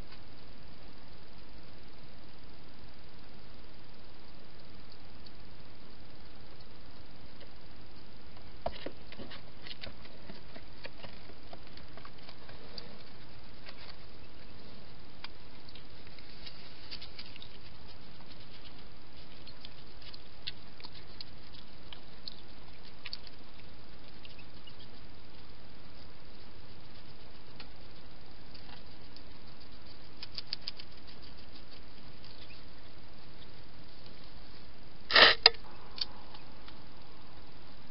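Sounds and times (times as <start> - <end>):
hedgehog eating and moving: 0.0 - 37.9
steady hiss: 0.0 - 37.9.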